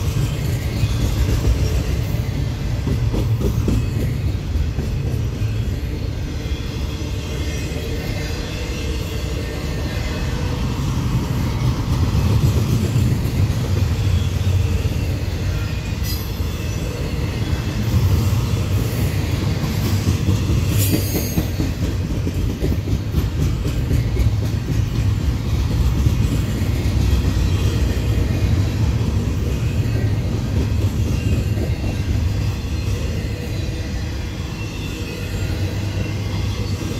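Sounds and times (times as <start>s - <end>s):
freight train rumbling past: 0.0s - 36.9s.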